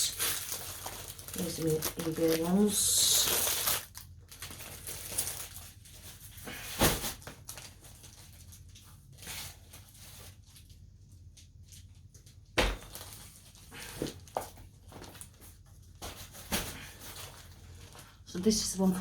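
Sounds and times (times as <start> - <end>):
plastic packaging rustling: 0.0 - 18.5.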